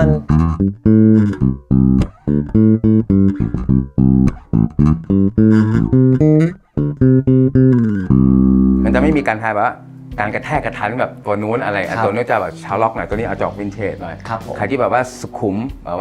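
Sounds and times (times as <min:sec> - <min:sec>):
electric bass plucked notes: 0:00.0 - 0:15.1.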